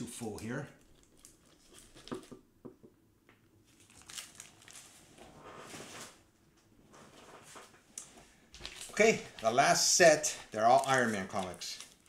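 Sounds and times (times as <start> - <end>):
comic books rustling: 0.0 - 2.4, 3.6 - 6.3, 6.9 - 12.0.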